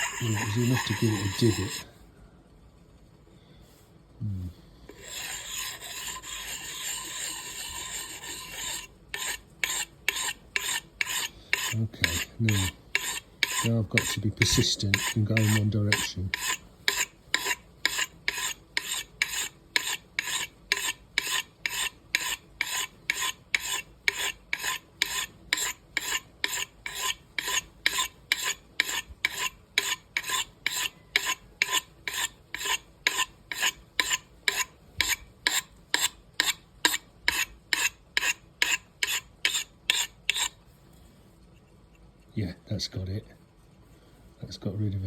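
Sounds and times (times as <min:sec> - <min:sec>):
axe scraping on sharpening stone: 0:00.0 - 0:01.8, 0:04.9 - 0:40.6.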